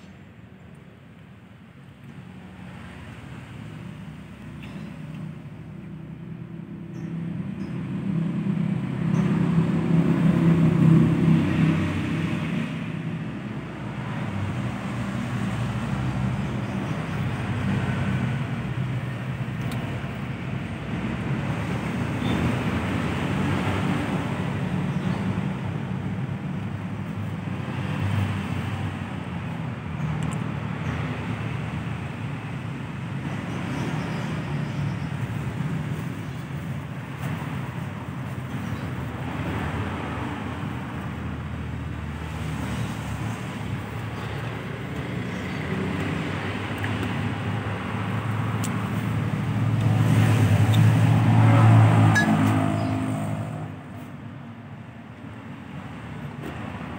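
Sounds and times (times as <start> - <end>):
road traffic rumble: 0.0 - 56.9
vehicle engine: 1.9 - 56.9.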